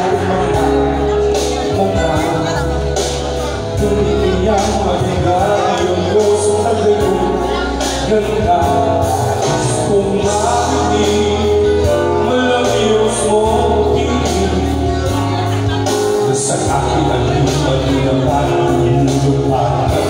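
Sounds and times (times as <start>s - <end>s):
music with steady bass line: 0.0s - 20.0s
person singing into microphone: 0.0s - 20.0s.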